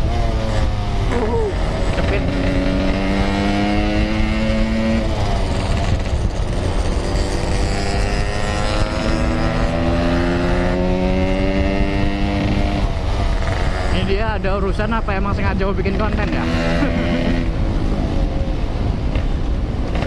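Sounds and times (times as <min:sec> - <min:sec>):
motorcycle engine revving: 0:00.0 - 0:14.8, 0:15.4 - 0:20.0
wind rush on microphone: 0:00.0 - 0:20.0.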